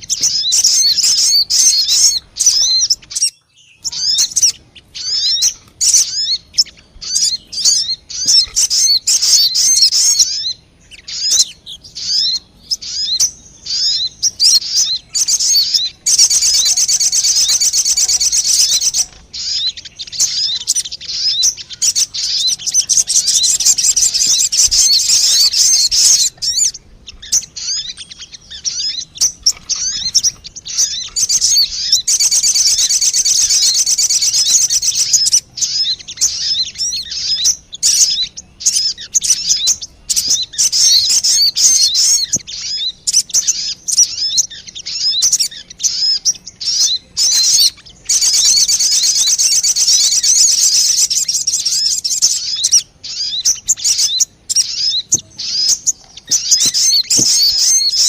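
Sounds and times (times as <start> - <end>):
high-pitched bird lure chirps: 0.0 - 58.0.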